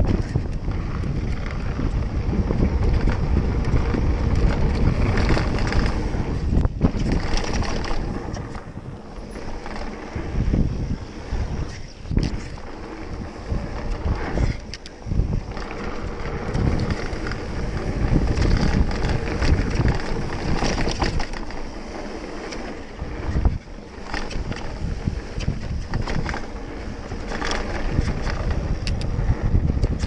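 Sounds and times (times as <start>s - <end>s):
bike rattling and knocking: 0.0s - 30.0s
tyres rolling on dirt trail: 0.0s - 30.0s
wind buffeting microphone: 0.0s - 30.0s.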